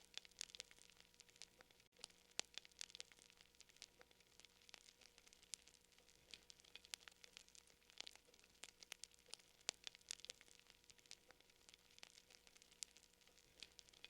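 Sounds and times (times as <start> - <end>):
faint crackling fire: 0.0 - 14.0.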